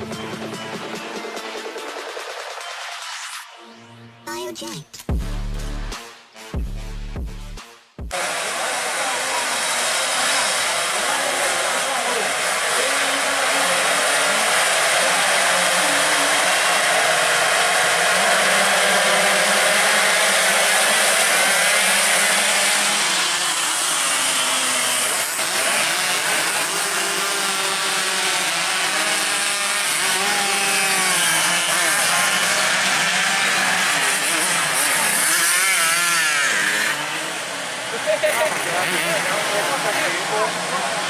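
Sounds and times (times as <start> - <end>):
motorcycle engines revving: 8.1 - 41.0.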